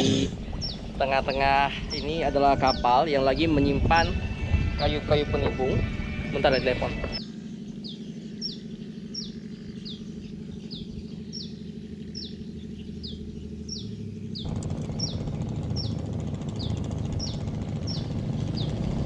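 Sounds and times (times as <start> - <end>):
bird chirping: 0.0 - 19.0
low rumble: 0.0 - 19.0.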